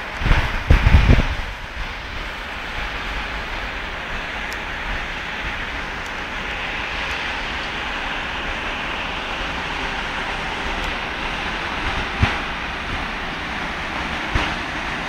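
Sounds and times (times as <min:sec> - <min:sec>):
train passing rushing noise: 0:00.0 - 0:15.0.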